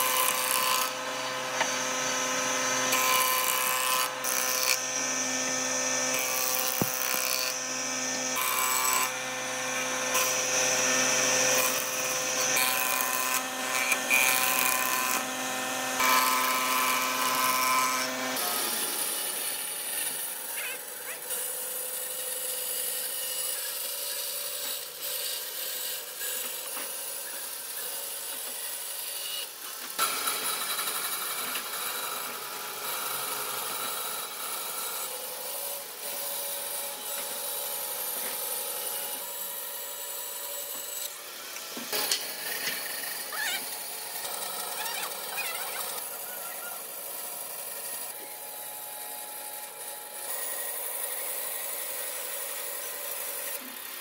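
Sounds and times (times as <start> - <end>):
power tool grinding wood: 0.0 - 54.0.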